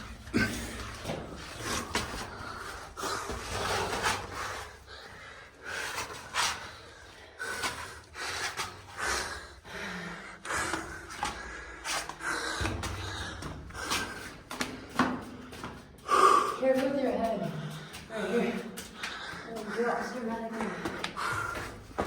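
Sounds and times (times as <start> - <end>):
person panting heavily: 0.2 - 16.7, 17.4 - 22.0.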